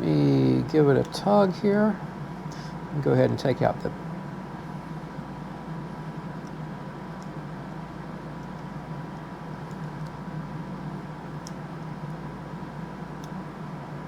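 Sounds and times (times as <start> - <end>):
room noise hum and hiss: 0.0 - 14.0.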